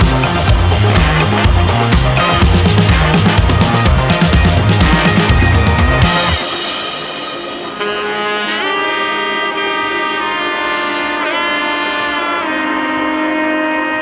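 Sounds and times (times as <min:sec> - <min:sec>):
saxophone-like horn playing: 0:00.0 - 0:14.0.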